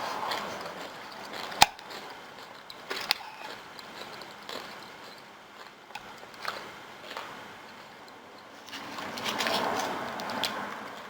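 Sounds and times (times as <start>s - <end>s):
eating clicks and smacks: 0.3s - 11.0s.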